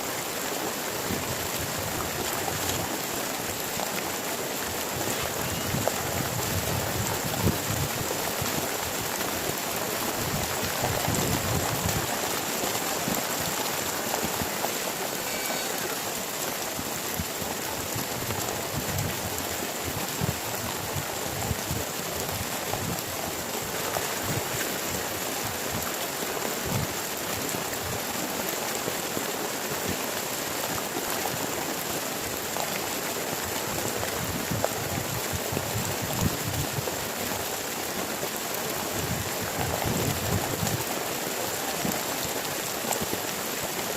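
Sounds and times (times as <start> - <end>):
heavy rain hiss: 0.0 - 43.9.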